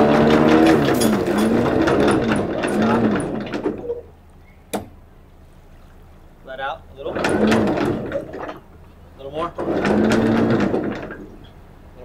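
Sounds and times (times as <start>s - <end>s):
electric anchor windlass running: 0.0s - 5.2s, 6.3s - 12.0s.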